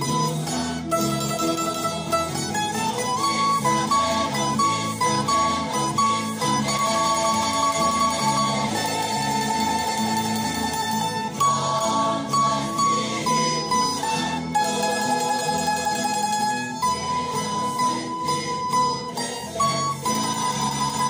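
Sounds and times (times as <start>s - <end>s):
mandolin playing hymn melody: 0.0s - 21.0s.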